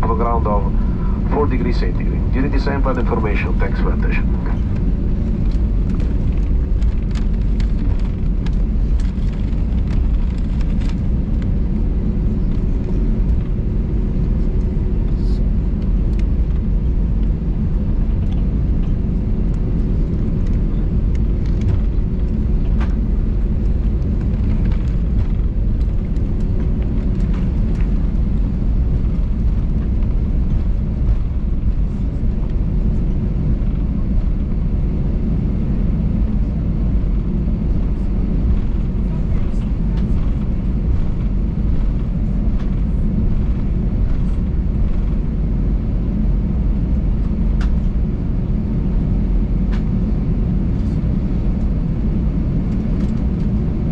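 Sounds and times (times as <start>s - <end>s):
faint steady hum: 0.0s - 53.9s
jet engines rumbling in cabin: 0.0s - 53.9s.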